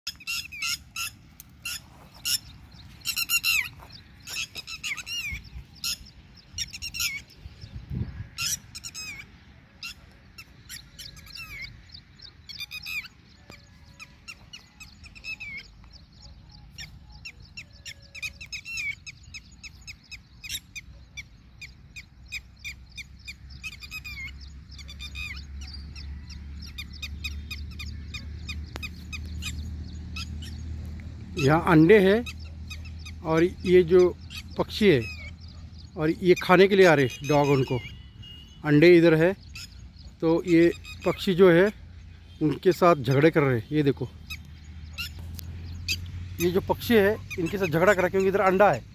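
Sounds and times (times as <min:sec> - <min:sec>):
lapwing alarm calls: 0:00.1 - 0:48.9.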